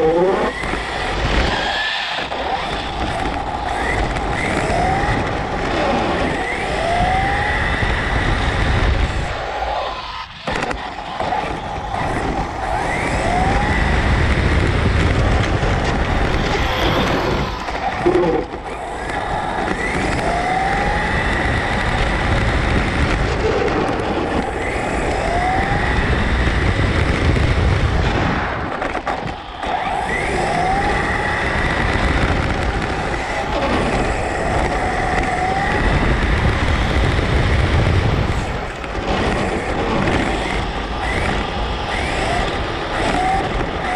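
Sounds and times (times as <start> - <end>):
electric motor whine: 0.0 - 28.1, 29.2 - 43.9
tyre and wind noise: 0.0 - 43.9.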